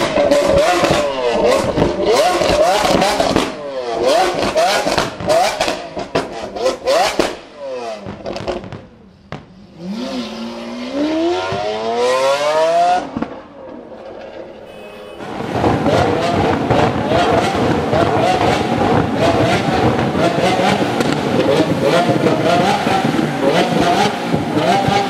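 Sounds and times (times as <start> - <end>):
sports car engine revving: 0.0 - 8.7, 9.7 - 13.8, 14.7 - 25.0
exhaust pops: 0.0 - 9.5, 13.0 - 14.3, 15.2 - 25.0.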